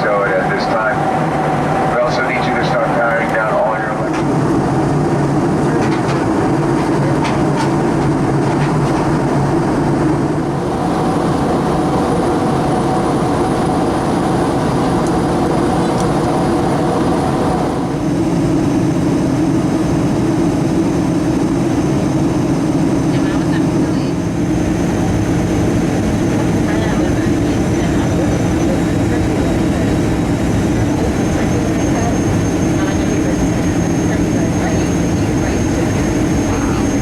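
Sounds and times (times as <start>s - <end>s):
vehicle drone from inside: 0.0s - 20.4s, 22.4s - 37.0s
faint steady whines: 0.0s - 37.0s.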